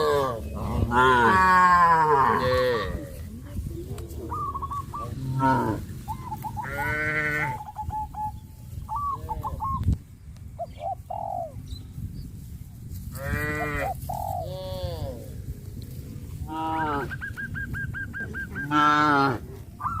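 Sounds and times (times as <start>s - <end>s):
farm animals calling: 0.0s - 11.7s, 12.9s - 15.5s, 16.1s - 20.0s.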